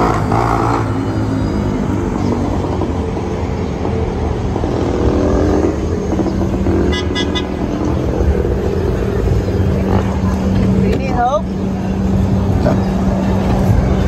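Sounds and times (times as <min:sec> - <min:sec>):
street traffic: 0:00.0 - 0:14.0
vehicle engine rumble: 0:00.0 - 0:14.0.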